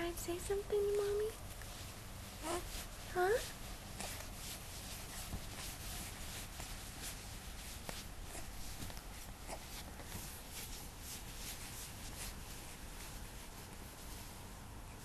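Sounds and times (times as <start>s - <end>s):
faint rustling: 0.0s - 15.0s
steady hiss and hum: 0.0s - 15.0s.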